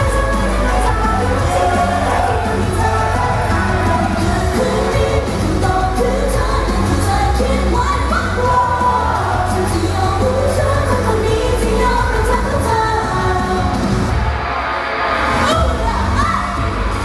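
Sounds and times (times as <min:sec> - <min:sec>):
woman singing pop song: 0:00.0 - 0:14.2, 0:15.4 - 0:17.0
backing track bass and drums: 0:00.0 - 0:14.3.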